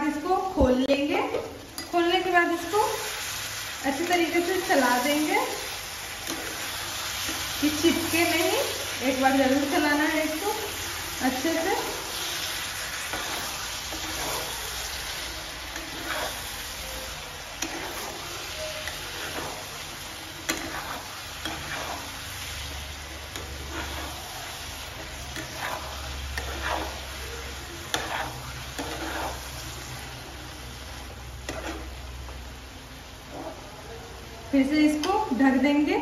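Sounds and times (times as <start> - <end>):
food sizzling in a frying pan: 0.0 - 36.0
spatula scraping a pan: 1.8 - 32.4, 33.2 - 33.7.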